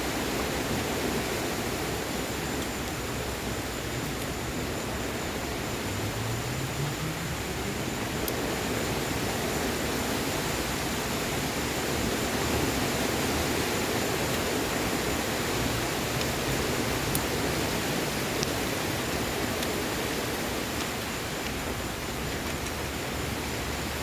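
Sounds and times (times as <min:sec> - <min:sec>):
rain hissing: 0:00.0 - 0:24.0
wood fire crackles: 0:00.0 - 0:24.0.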